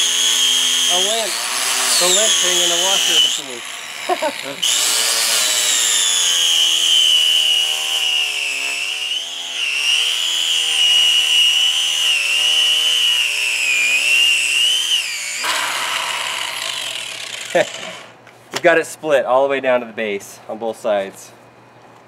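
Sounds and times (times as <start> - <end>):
angle grinder cutting: 0.0 - 18.2.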